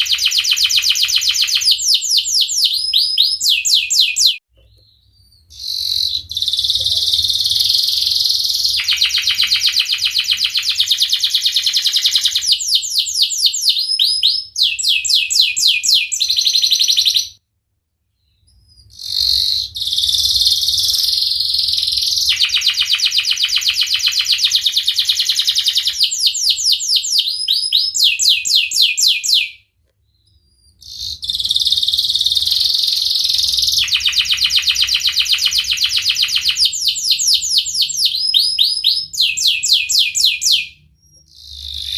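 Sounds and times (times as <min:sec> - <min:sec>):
canary singing trills: 0:00.0 - 0:17.4, 0:18.2 - 0:41.9.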